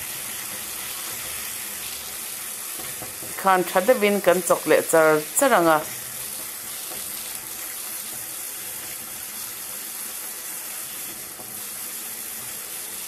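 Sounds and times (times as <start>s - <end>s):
spatula stirring in a wok: 0.0s - 3.6s, 5.8s - 13.0s
paste sizzling in hot oil: 0.0s - 13.0s.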